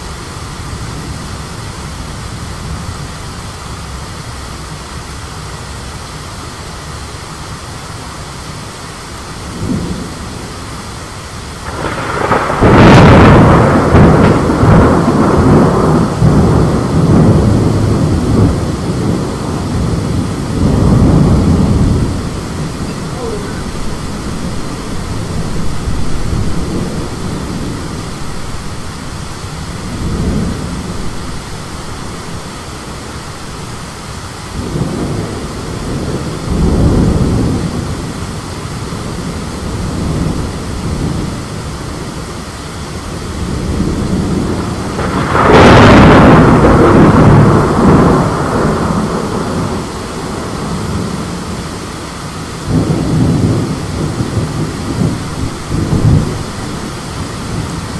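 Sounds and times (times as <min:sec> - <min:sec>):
gusting wind: 0:00.0 - 0:57.9
rain: 0:00.0 - 0:57.9
low rolling thunder: 0:06.6 - 0:57.9
sharp crack of close thunder: 0:08.2 - 0:57.9.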